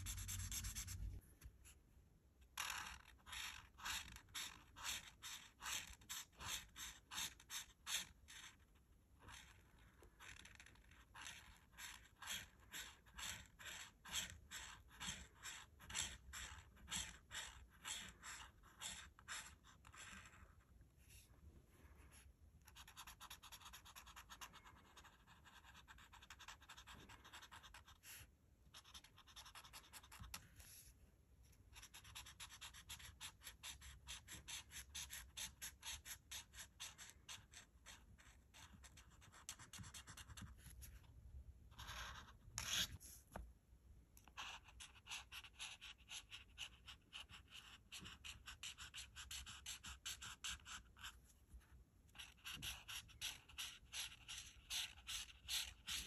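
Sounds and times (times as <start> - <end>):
marker nib scratching paper: 0.0 - 1.2, 2.5 - 30.9, 31.6 - 41.1, 41.7 - 43.2, 44.2 - 56.0.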